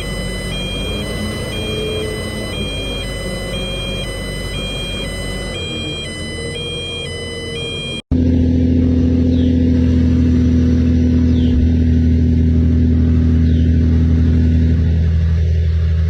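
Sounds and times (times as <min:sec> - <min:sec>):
heavy truck engine droning: 0:00.0 - 0:16.0.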